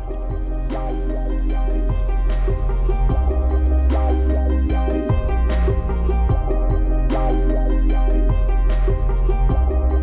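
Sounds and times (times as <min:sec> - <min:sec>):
electronic music with drum beat: 0:00.0 - 0:10.0.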